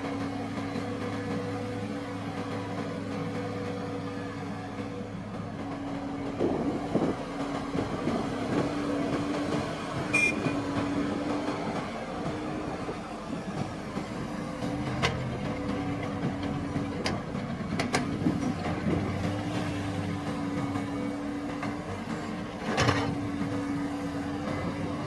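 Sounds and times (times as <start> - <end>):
farm machinery engine humming: 0.0 - 25.0.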